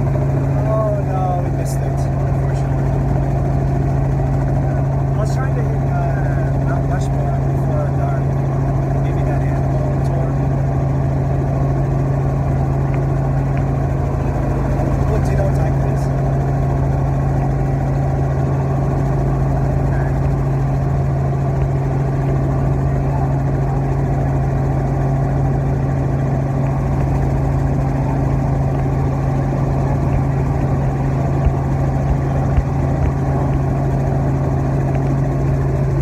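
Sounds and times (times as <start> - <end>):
helicopter engine and rotor drone: 0.0 - 36.0.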